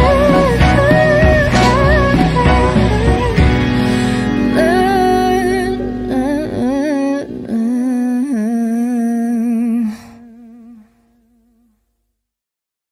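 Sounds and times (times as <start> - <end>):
pop song accompaniment: 0.0 - 10.7
person singing long note with vibrato: 0.0 - 11.7.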